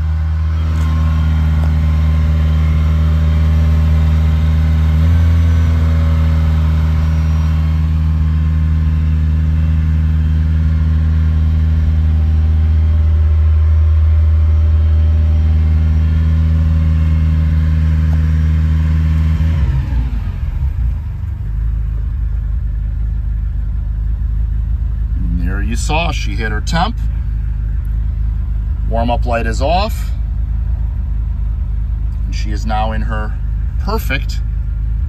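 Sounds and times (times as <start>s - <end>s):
car engine fast idle: 0.0s - 19.6s, 20.2s - 35.0s.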